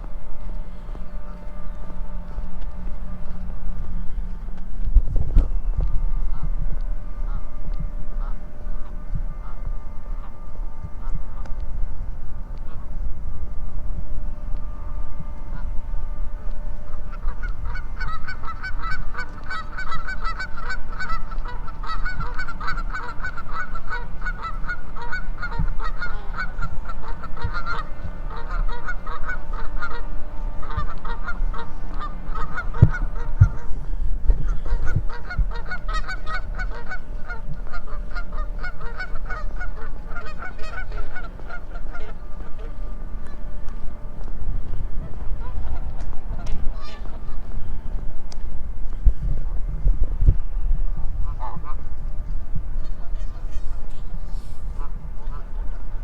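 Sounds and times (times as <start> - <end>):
geese honking: 0.0 - 48.8, 50.4 - 56.0.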